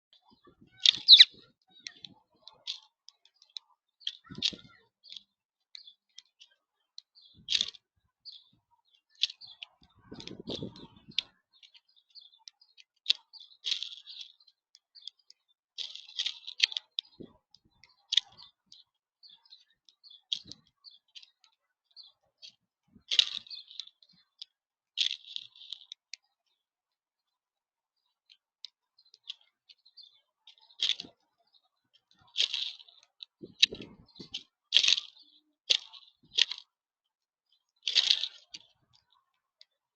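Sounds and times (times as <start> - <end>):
birds pecking seed: 0.1 - 39.9.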